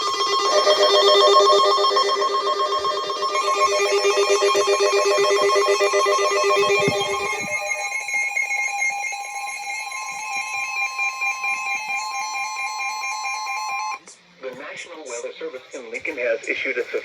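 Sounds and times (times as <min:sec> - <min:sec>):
buzzy pulsing alarm tone: 0:00.0 - 0:14.0
steady high alert tone: 0:00.0 - 0:14.0.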